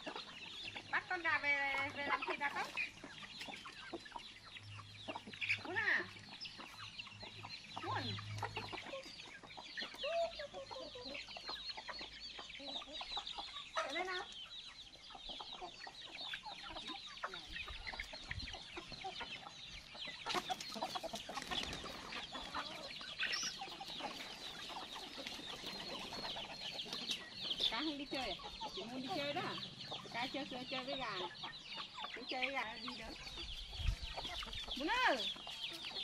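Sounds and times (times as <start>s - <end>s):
chicks peeping: 0.0s - 36.0s
hens clucking: 0.0s - 36.0s.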